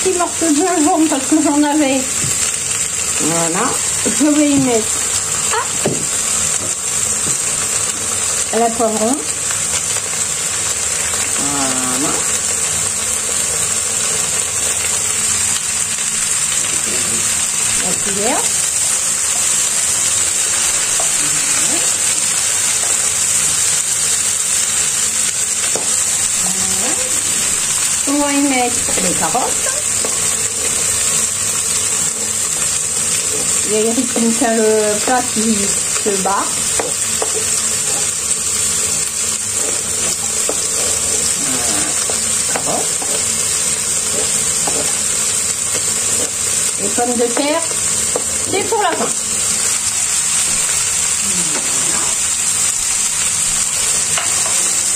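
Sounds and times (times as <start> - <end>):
meat sizzling in a hot pan: 0.0 - 54.9.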